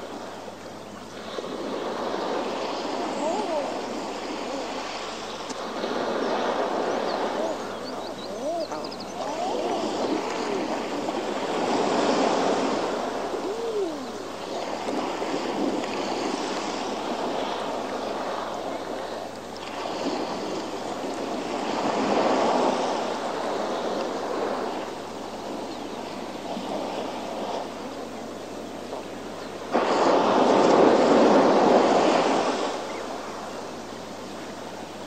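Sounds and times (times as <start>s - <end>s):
waves breaking on rocks: 0.0s - 35.0s.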